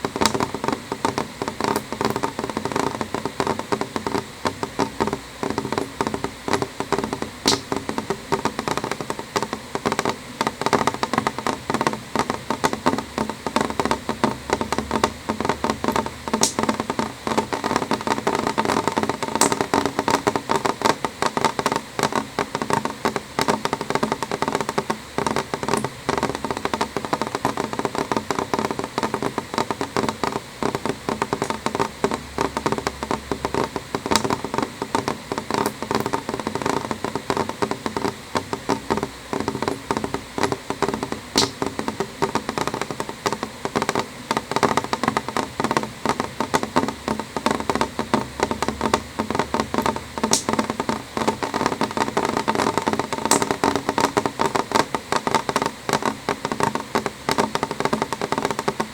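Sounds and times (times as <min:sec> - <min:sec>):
rain tapping on window glass: 0:00.0 - 0:58.9.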